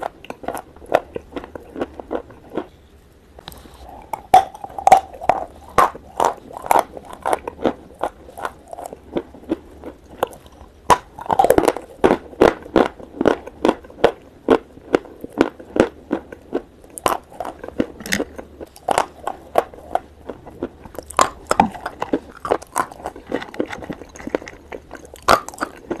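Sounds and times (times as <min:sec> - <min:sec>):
chewing and crunching chalk: 0:00.0 - 0:02.8, 0:03.4 - 0:26.0.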